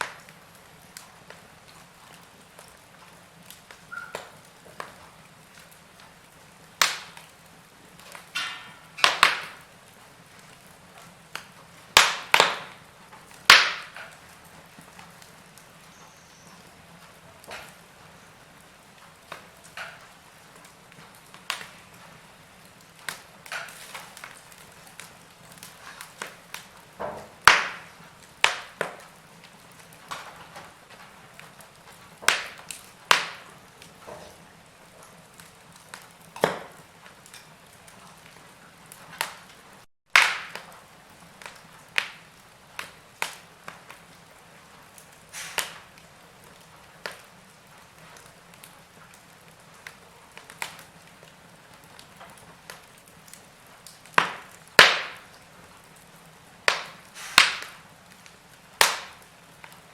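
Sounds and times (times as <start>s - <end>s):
low steady hiss: 0.0s - 59.9s
wood fire crackling: 0.0s - 59.9s.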